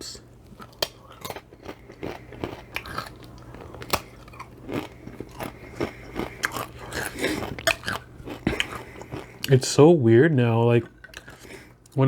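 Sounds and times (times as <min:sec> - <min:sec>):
wet crunchy chewing: 0:00.5 - 0:09.6, 0:10.8 - 0:12.0.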